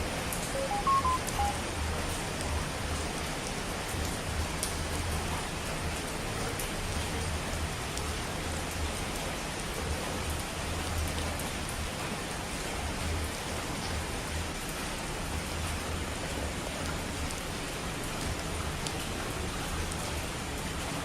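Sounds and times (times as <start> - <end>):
rain drops ticking: 0.0 - 21.0.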